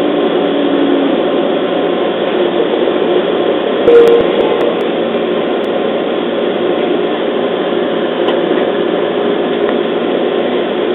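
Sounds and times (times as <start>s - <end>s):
train wheels rumbling on rail: 0.0s - 10.9s.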